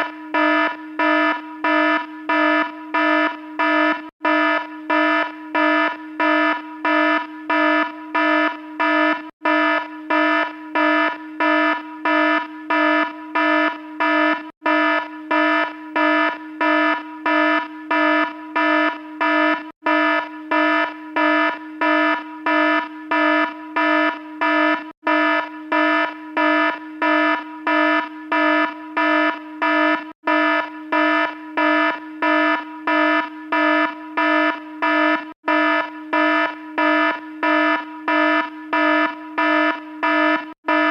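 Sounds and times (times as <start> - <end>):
electronic alarm beeping: 0.0 - 40.9
steady lower alarm tone: 0.0 - 40.9.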